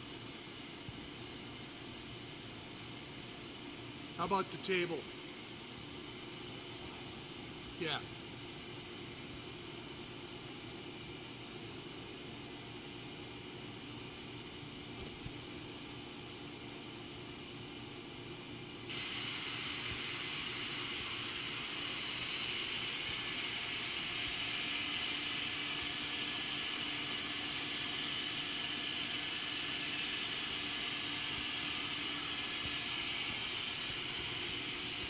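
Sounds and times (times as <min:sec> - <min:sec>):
machine table hissing whine: 0:00.0 - 0:17.6, 0:18.6 - 0:35.0.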